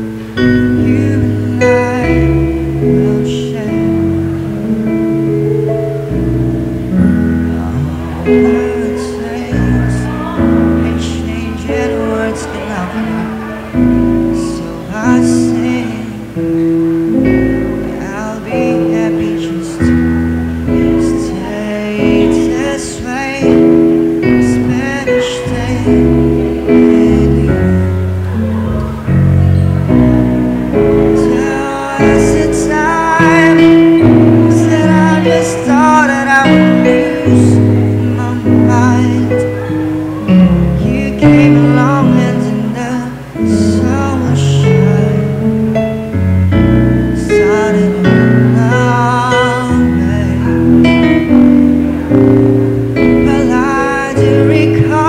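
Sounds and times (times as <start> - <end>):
person singing with vibrato: 0.0 - 55.0
sustained instrumental accompaniment: 0.0 - 55.0.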